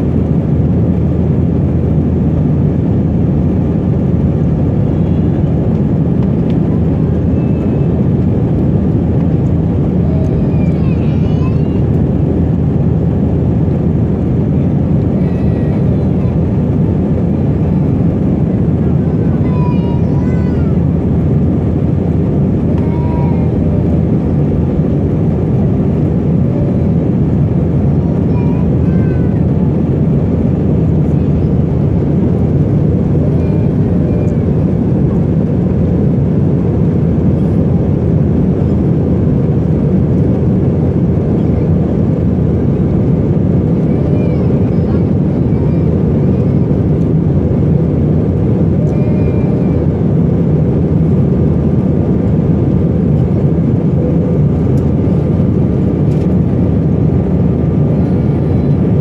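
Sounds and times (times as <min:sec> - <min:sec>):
jet cabin engine drone: 0:00.0 - 0:59.0.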